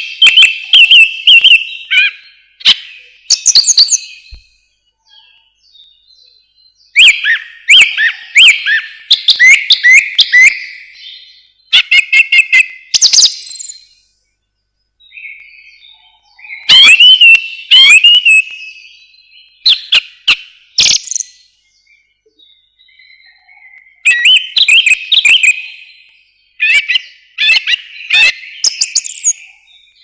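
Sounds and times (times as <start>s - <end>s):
song thrush singing: 0.0s - 30.0s.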